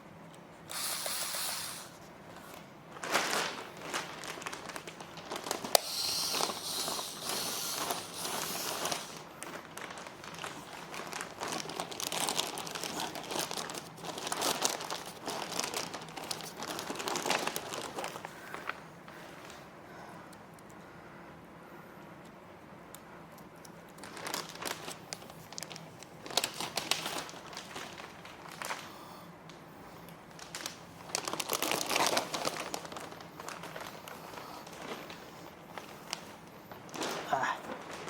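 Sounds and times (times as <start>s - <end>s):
packaging crinkling and rustling: 0.7s - 19.8s, 23.8s - 38.0s.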